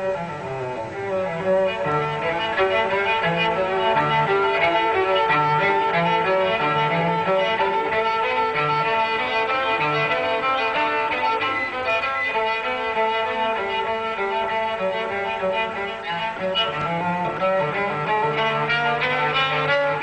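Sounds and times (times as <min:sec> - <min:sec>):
cello: 0:00.0 - 0:20.0
violin: 0:00.0 - 0:20.0.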